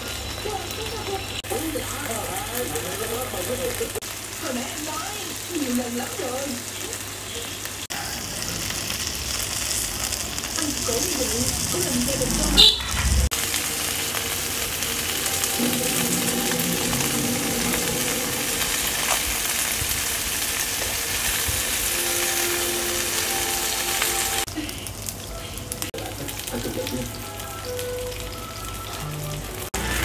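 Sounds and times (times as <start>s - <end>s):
fish sizzling in a frying pan: 0.0s - 12.1s, 13.0s - 30.0s.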